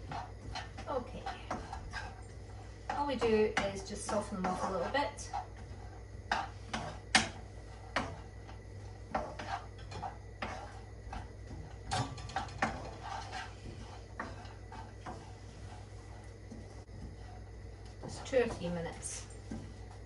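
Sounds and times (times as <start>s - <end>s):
utensil scraping a pan: 0.0s - 20.0s.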